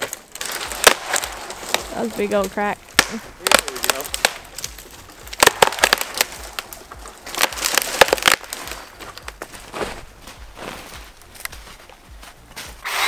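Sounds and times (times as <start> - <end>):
tree trunk splintering and cracking: 0.0 - 13.0.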